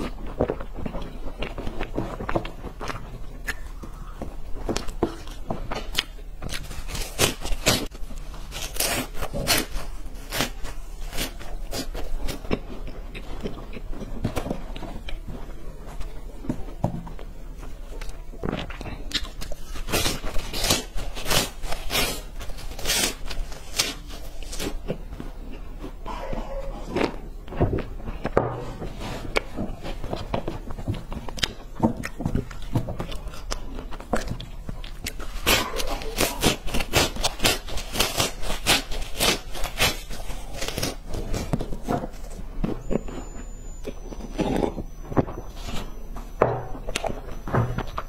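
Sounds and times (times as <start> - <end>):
crunching and chewing dry sticks: 0.0 - 48.0.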